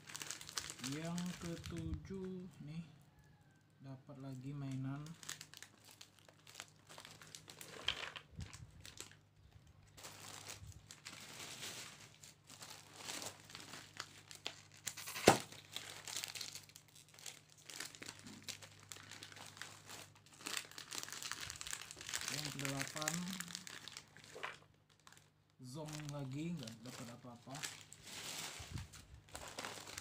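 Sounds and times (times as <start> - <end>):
plastic wrappers crinkling and tearing: 0.0 - 2.5, 4.2 - 30.0.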